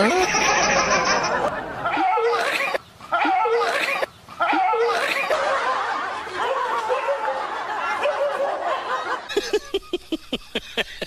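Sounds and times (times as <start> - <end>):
people laughing: 0.0 - 2.4, 4.4 - 11.0.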